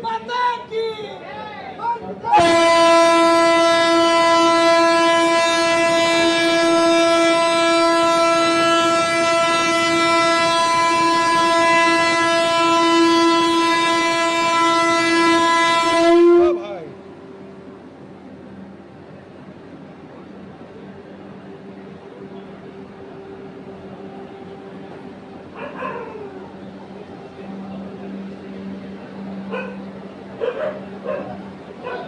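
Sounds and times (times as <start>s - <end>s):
train horn blast: 2.3s - 18.7s, 21.4s - 31.9s.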